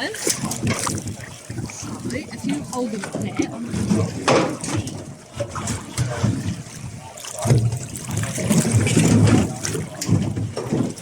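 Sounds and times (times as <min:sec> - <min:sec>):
water sloshing against boat: 0:00.0 - 0:11.0.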